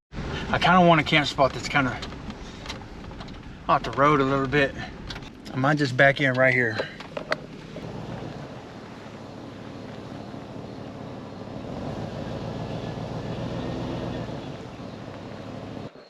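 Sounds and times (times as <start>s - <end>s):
car engine running at low speed: 0.2s - 16.0s.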